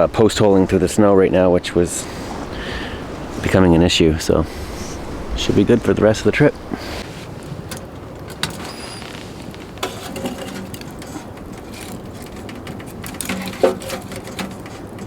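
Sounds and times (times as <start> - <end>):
tent fabric fluttering in wind: 0.0 - 15.0.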